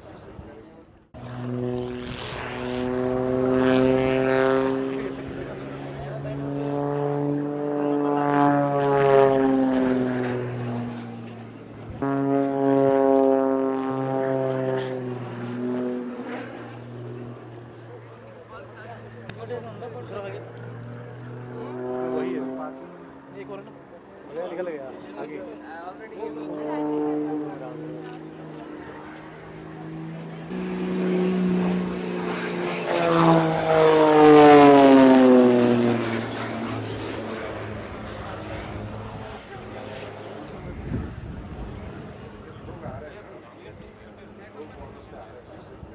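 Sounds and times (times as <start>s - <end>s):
propeller aircraft flying past: 0.0s - 45.9s.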